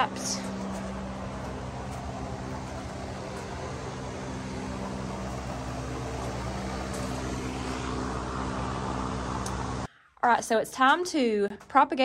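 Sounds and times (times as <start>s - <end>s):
electric fan motor humming: 0.0s - 9.9s.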